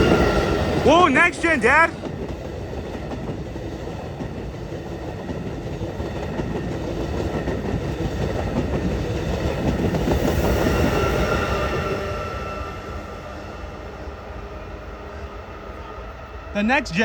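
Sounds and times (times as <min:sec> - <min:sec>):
high-speed train passing: 0:00.0 - 0:17.0
train wheels rumbling on rail: 0:00.0 - 0:17.0.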